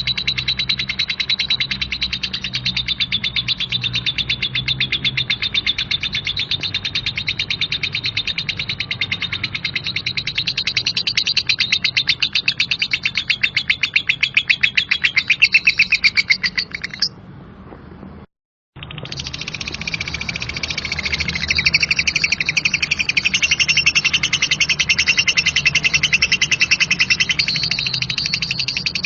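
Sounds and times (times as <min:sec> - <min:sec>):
lovebird chattering trill: 0:00.0 - 0:17.2, 0:18.8 - 0:29.0.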